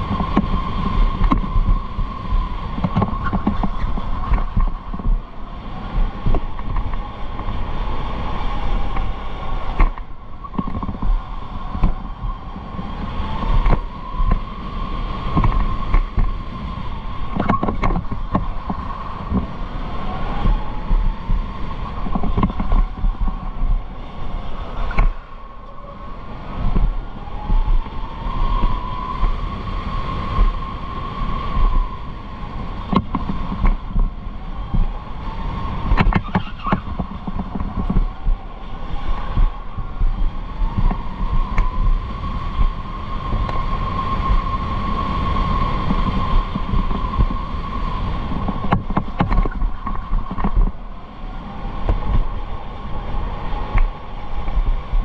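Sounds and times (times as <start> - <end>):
rough rumble of tyres: 0.0 - 55.0.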